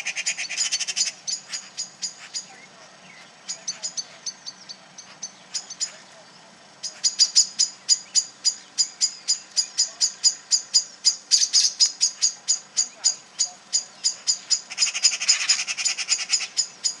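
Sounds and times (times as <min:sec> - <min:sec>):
birds alarm calls: 0:00.0 - 0:17.0.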